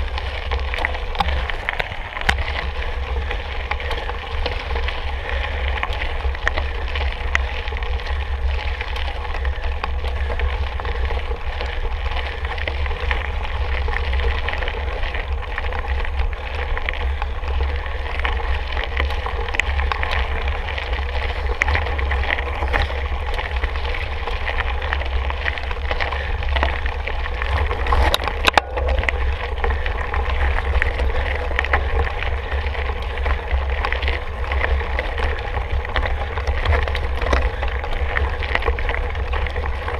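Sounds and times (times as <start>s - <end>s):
bike rattling: 0.0s - 39.9s
bike tyres crunching on trail: 0.0s - 39.9s
wind rumble on microphone: 0.0s - 39.9s.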